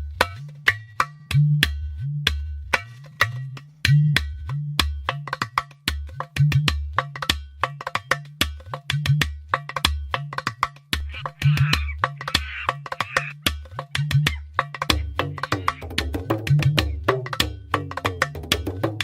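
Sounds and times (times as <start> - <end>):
dry click-like percussion: 2.3 - 19.0.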